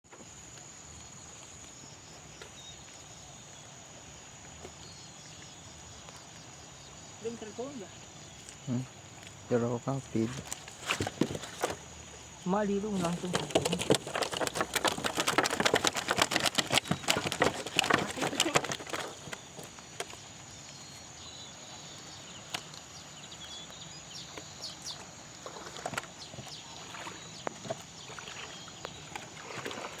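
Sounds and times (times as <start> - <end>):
insects droning high-pitched: 0.1 - 30.0.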